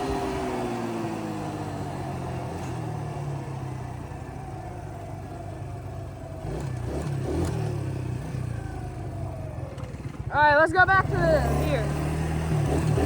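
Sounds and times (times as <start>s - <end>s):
small engines revving: 0.0s - 13.0s.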